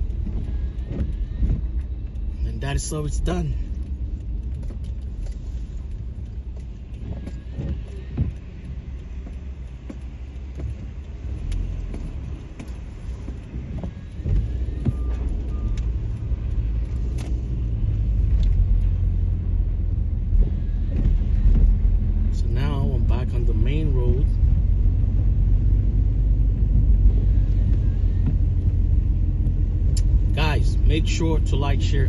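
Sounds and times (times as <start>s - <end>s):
car engine and tyre rumble: 0.0s - 32.0s.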